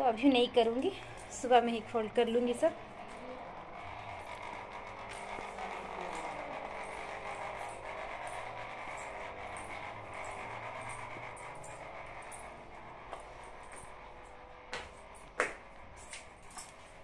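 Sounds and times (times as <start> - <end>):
electric motor humming: 0.0 - 17.0.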